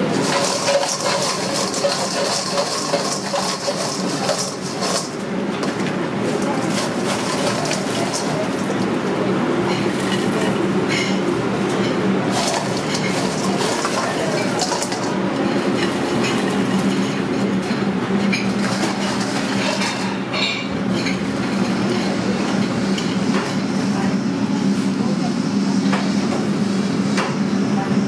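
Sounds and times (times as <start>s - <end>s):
dishes and utensils clattering: 0.0s - 8.8s, 9.6s - 23.6s
machine hum: 0.0s - 28.0s.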